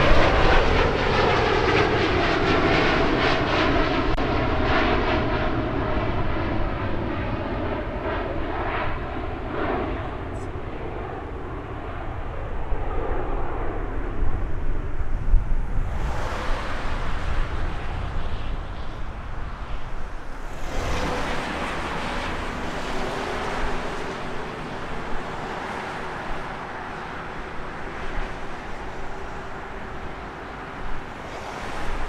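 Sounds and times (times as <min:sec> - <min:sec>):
jet engines roaring at takeoff: 0:00.0 - 0:32.0.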